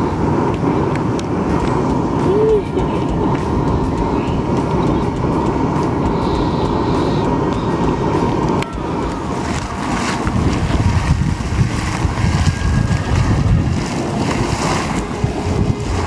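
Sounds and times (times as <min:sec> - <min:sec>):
geyser splashing and hissing: 0:00.0 - 0:16.0
wind buffeting microphone: 0:00.0 - 0:16.0.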